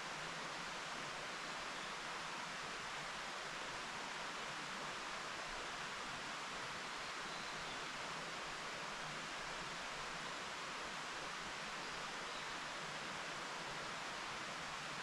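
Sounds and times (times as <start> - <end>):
mountain stream babbling: 0.0 - 15.0.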